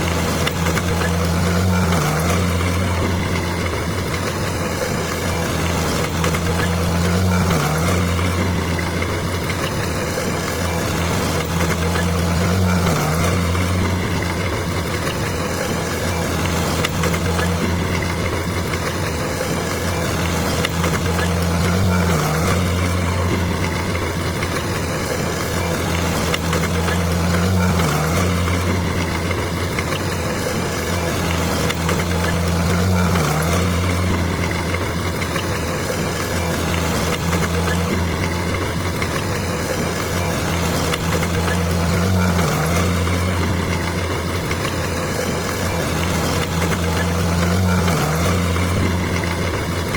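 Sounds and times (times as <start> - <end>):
bulldozer diesel engine droning: 0.0 - 49.9.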